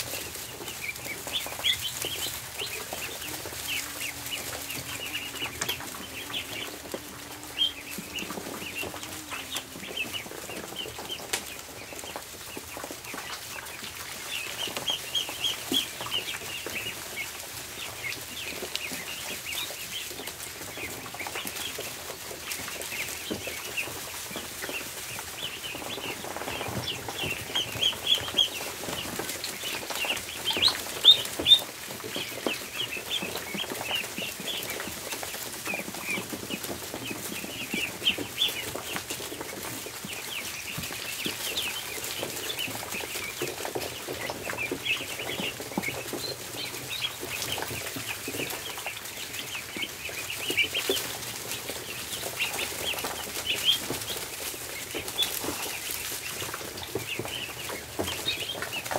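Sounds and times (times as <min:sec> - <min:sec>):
ducklings peeping: 0:00.0 - 0:58.9.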